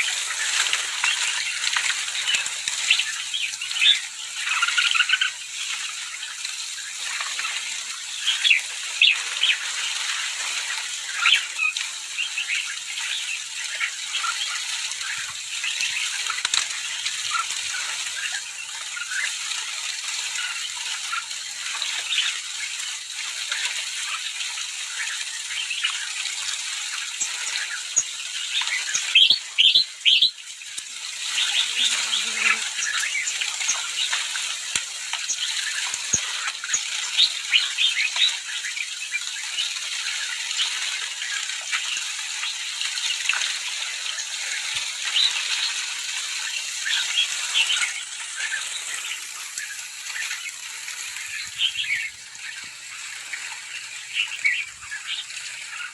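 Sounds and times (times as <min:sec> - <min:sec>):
flock of birds chirping: 0:00.0 - 0:55.9.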